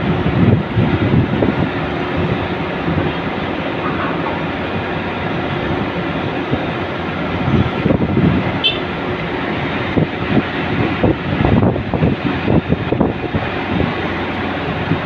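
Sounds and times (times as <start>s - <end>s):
low mechanical engine rumble: 0.0s - 15.0s.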